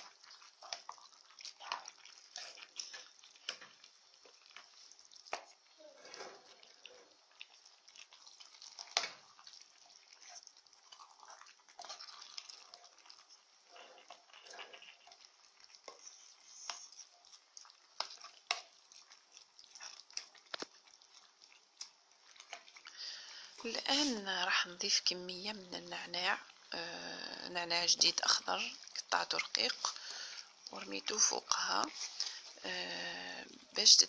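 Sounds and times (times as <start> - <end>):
wet squelching of stirred spaghetti: 0.0 - 34.0.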